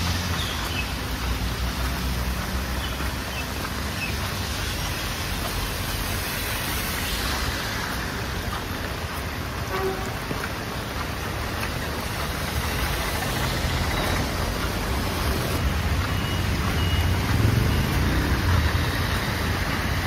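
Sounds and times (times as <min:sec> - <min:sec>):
heavy rain pouring: 0:00.0 - 0:20.0
traffic through standing water: 0:00.0 - 0:20.0.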